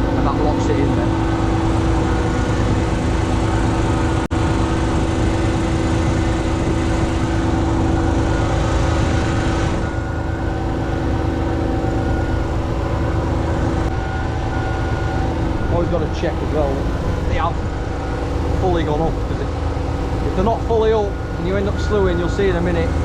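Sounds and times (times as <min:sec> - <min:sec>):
diesel engine running: 0:00.0 - 0:23.0
hydraulic whine: 0:00.0 - 0:23.0.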